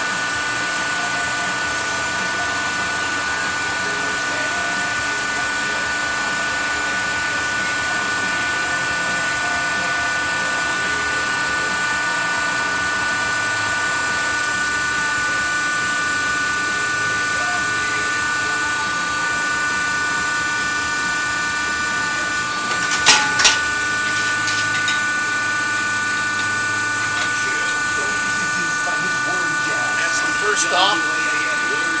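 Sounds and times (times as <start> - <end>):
machine tool whining: 0.0 - 32.0.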